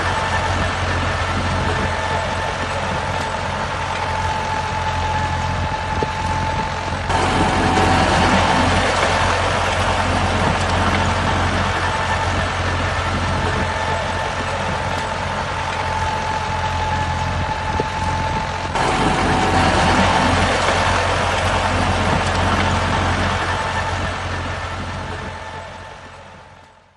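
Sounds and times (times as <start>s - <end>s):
vehicle engine humming and whining: 0.0s - 26.9s.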